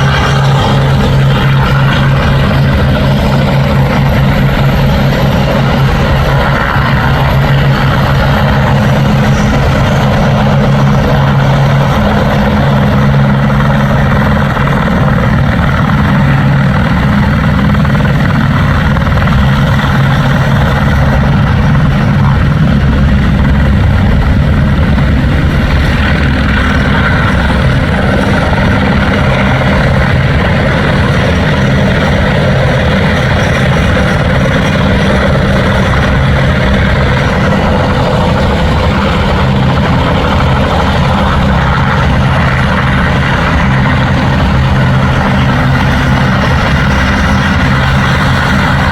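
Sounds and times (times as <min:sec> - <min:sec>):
helicopter rotor and engine: 0:00.0 - 0:48.9.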